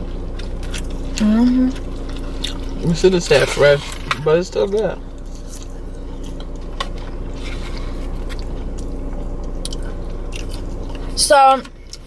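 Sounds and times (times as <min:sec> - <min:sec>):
person chewing food: 0:00.0 - 0:04.3, 0:05.0 - 0:12.0
steady low hum: 0:00.0 - 0:12.0
small crunches: 0:00.3 - 0:04.2, 0:04.8 - 0:11.1.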